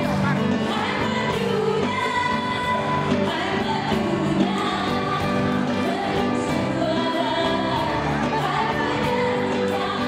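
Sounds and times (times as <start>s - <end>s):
live band playing: 0.0s - 10.0s
woman singing: 0.5s - 10.0s.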